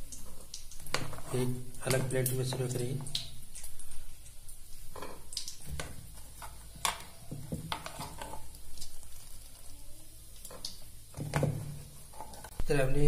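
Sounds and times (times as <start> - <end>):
wet squelches and drips: 0.0 - 12.7.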